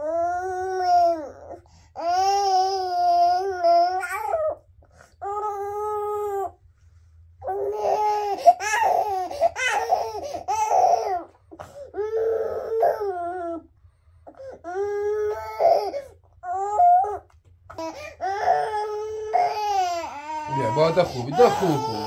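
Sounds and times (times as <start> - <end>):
infant crying: 0.0 - 4.6, 7.4 - 13.7, 14.3 - 22.0.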